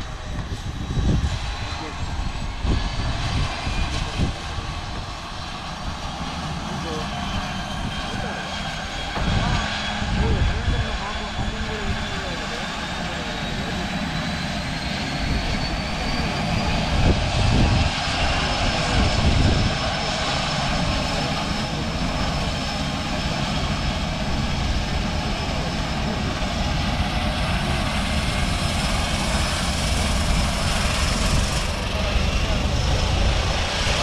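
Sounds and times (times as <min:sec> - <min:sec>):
high engine whine: 0:00.0 - 0:34.0
propeller engines rumbling: 0:00.0 - 0:34.0.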